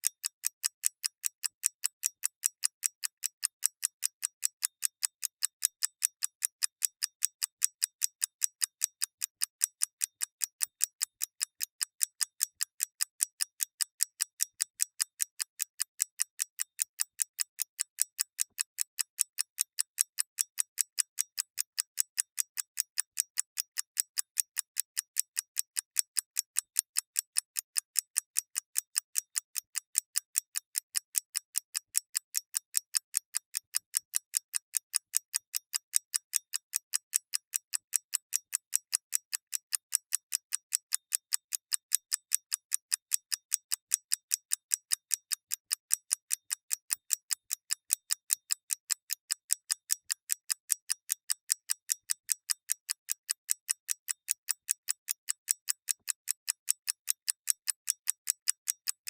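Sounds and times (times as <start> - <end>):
mechanical clock ticking: 0.0 - 59.0.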